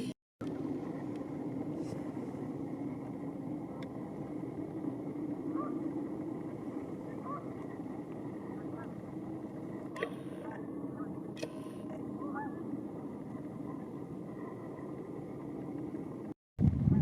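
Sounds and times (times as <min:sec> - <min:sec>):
traffic rumble: 0:00.0 - 0:16.4.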